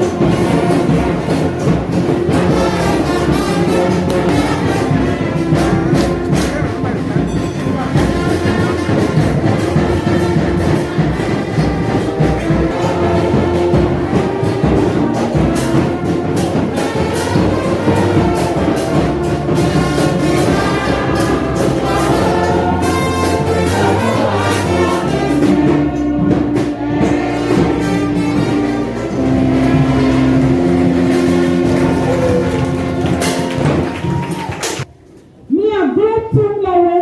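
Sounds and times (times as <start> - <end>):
brass horns holding notes: 0.0 - 34.9
busy percussion: 0.0 - 35.2.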